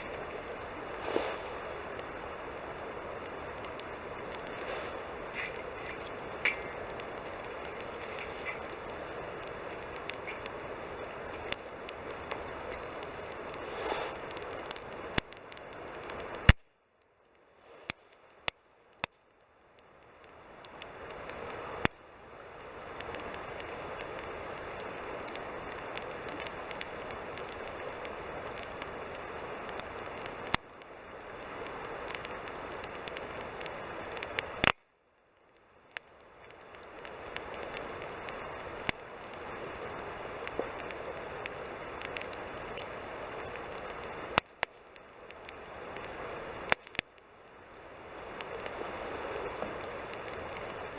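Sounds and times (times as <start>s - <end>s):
campfire flames hissing: 0.0s - 50.9s
fire crackles and pops: 0.0s - 50.9s.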